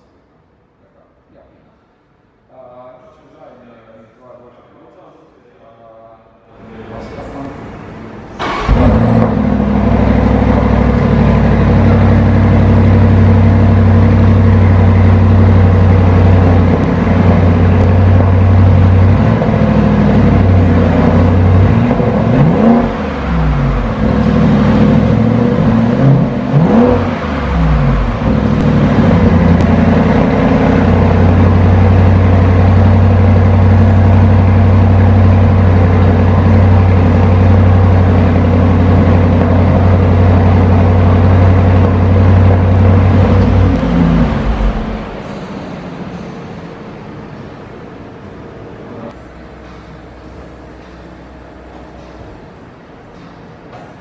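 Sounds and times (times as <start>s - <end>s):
car engine idling and revving: 7.0s - 53.2s.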